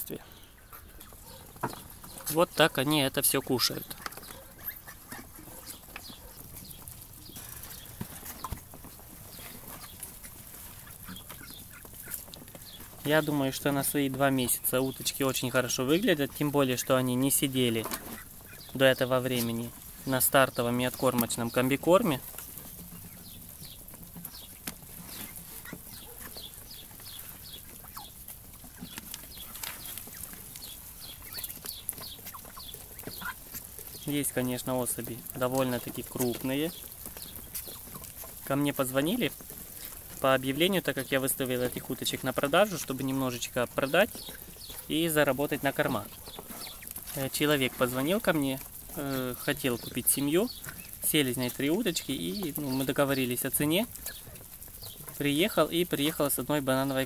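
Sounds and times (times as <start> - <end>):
ducks' bills pecking in feed: 0.0 - 57.0.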